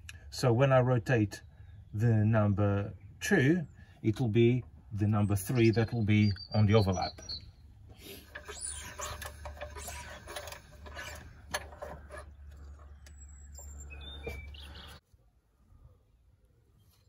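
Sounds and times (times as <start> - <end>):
small birds chirping: 1.1 - 15.0.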